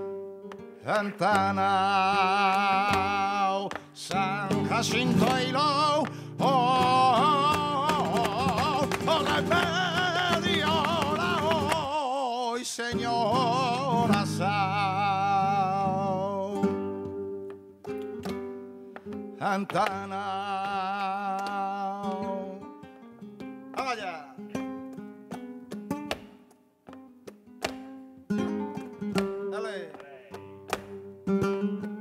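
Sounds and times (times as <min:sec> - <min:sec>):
guitar: 0:00.0 - 0:32.0
person singing flamenco: 0:00.0 - 0:32.0.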